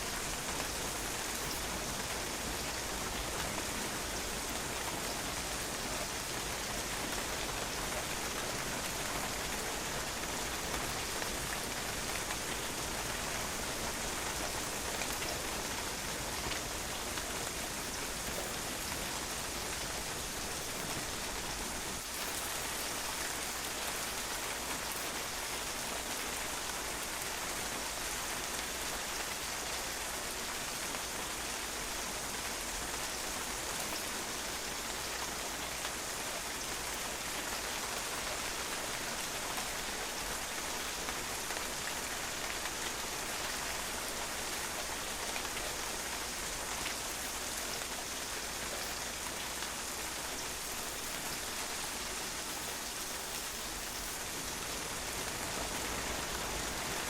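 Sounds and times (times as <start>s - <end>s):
rain pattering on hard surface: 0.0s - 57.0s.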